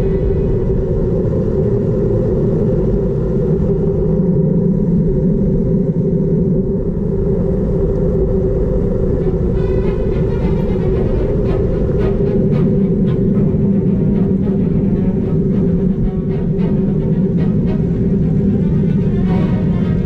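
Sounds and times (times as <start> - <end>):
low rumble: 0.0 - 20.0
wind rushing: 0.0 - 20.0.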